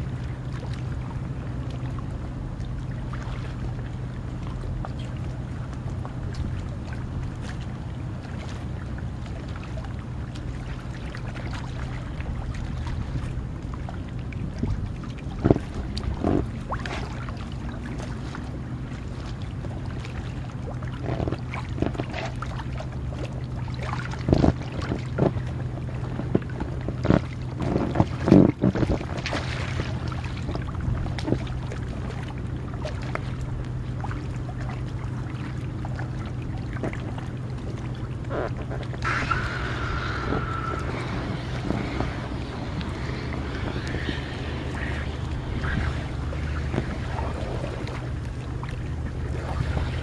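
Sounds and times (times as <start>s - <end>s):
low hum: 0.0s - 50.0s
water splashing and sloshing: 0.0s - 50.0s.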